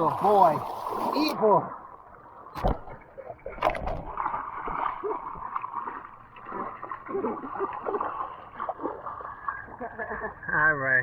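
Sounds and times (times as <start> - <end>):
pool water splashing and sloshing: 0.0 - 10.5.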